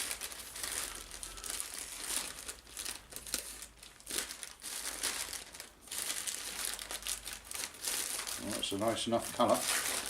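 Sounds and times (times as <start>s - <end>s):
plastic packaging crinkling and tearing: 0.0s - 10.0s.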